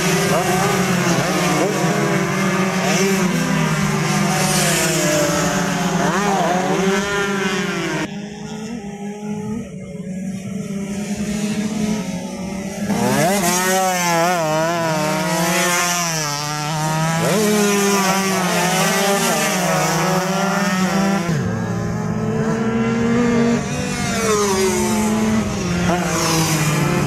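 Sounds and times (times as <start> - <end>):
two-stroke motorcycles racing: 0.0 - 27.0.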